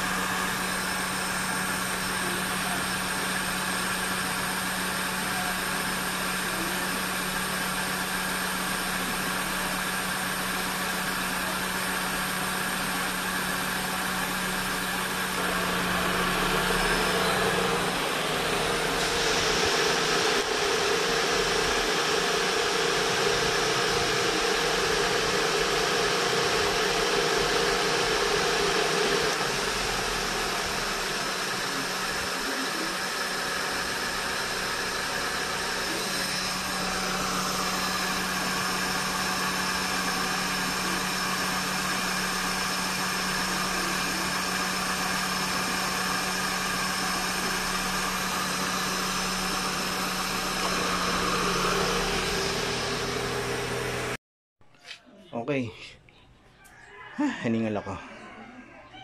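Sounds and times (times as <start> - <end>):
car engine idling: 0.0 - 54.2.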